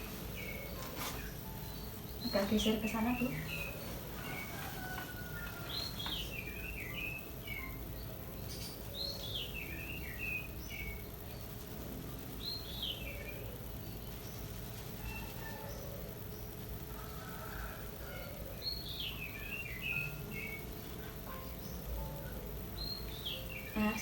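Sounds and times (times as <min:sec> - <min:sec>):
low background hum: 0:00.0 - 0:24.0
songbird singing: 0:00.0 - 0:24.0.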